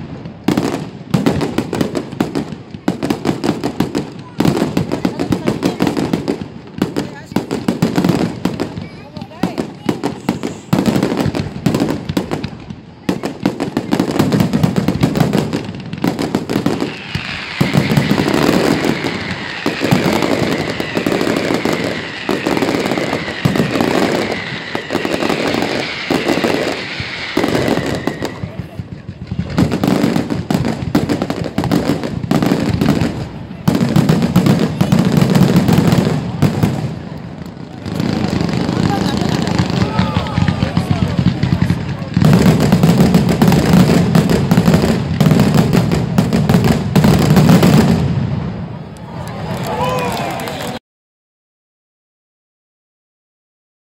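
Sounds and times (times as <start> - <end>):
fireworks bangs and crackling: 0.0 - 50.8
fireworks whistles: 0.4 - 48.6.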